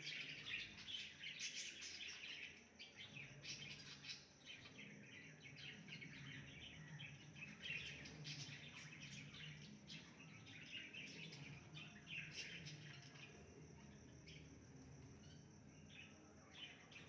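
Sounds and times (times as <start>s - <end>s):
faint birds chirping: 0.0s - 17.0s
faint low hum: 0.0s - 17.0s.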